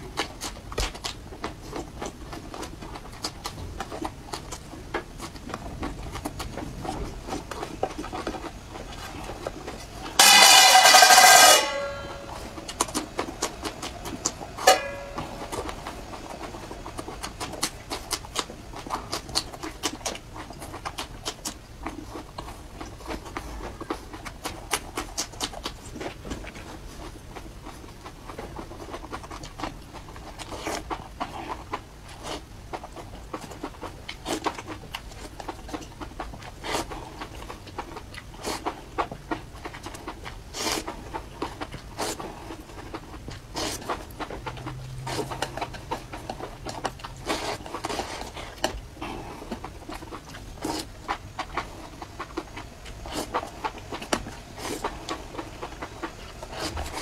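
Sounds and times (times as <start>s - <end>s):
wet chewing and slurping: 0.0s - 57.0s.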